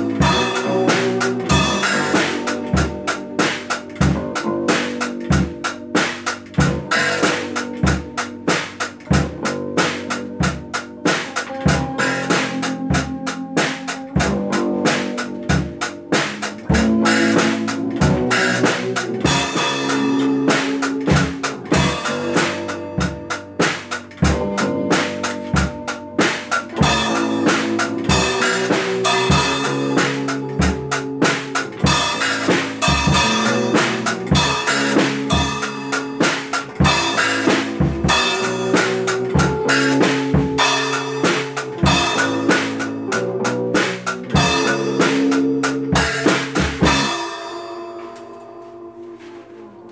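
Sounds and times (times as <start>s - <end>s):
drum kit beat: 0.0s - 49.5s.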